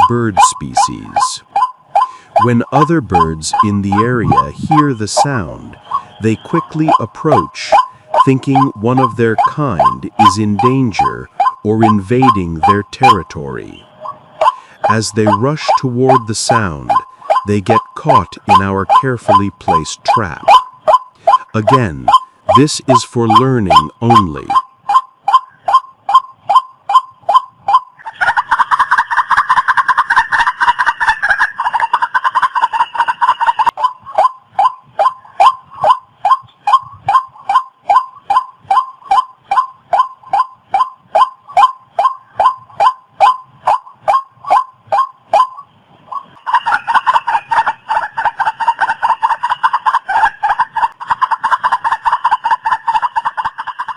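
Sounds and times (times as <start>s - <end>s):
waterhen calling harsh notes: 0.0s - 53.9s.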